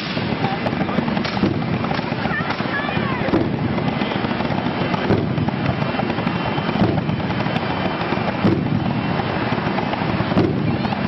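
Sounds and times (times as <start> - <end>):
propane flame bursts: 0.0 - 11.0
steady loud din: 0.0 - 11.0.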